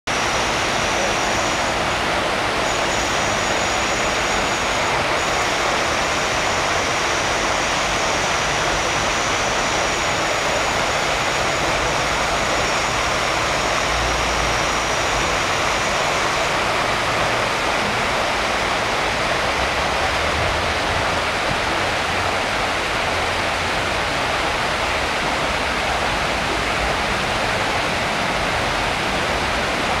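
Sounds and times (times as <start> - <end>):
fountain water splashing: 0.1 - 30.0.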